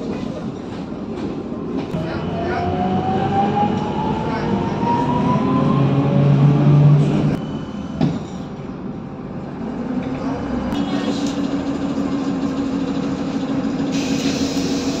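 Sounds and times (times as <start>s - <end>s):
outdoor street traffic: 0.0s - 15.0s
trolleybus road noise: 0.0s - 15.0s.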